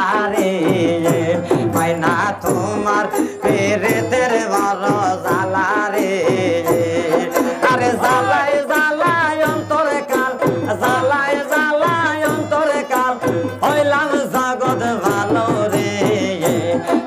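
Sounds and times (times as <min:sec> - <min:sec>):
folk melody over percussion beat: 0:00.0 - 0:17.0.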